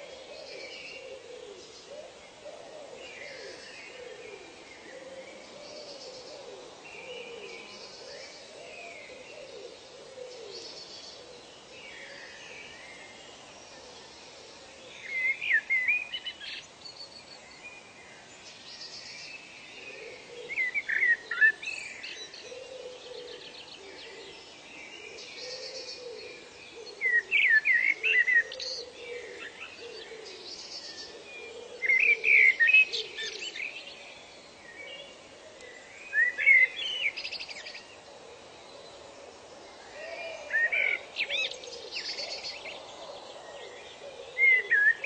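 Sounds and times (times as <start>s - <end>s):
outdoor ambience hiss: 0.0s - 45.0s.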